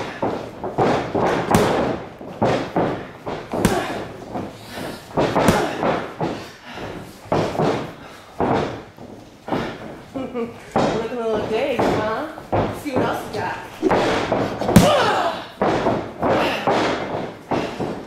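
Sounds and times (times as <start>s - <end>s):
boxing gloves thudding: 0.0s - 18.0s.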